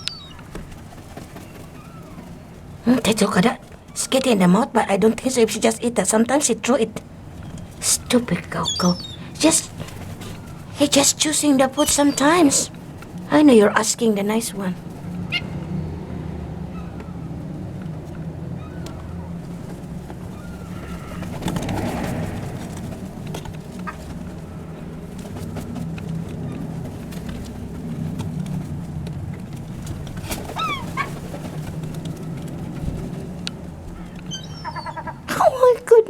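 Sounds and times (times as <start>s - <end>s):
seagulls calling: 0.0s - 36.0s.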